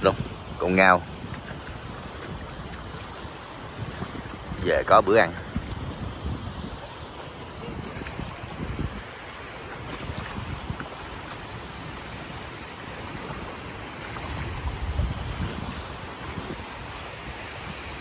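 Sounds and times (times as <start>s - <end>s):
gentle sea surf: 0.0s - 18.0s
wind buffeting microphone: 0.0s - 18.0s.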